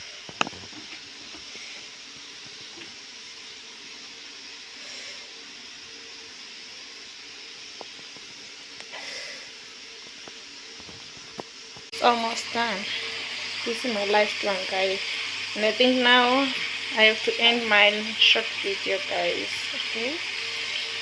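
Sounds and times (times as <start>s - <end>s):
chips frying in hot oil: 0.0s - 21.0s.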